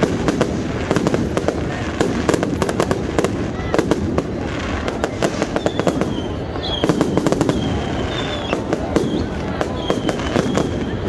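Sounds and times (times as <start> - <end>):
firework whistles: 0.0 - 11.0
fireworks bangs and crackles: 0.0 - 11.0.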